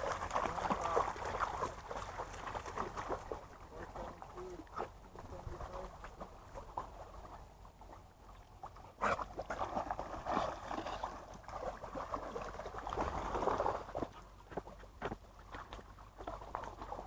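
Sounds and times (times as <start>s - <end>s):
dogs splashing in water: 0.0s - 17.0s.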